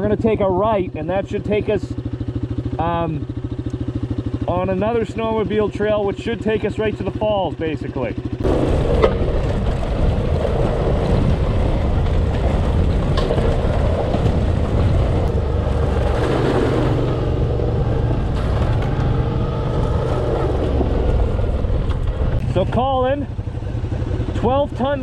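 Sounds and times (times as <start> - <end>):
motorcycle engines running: 0.0 - 25.0.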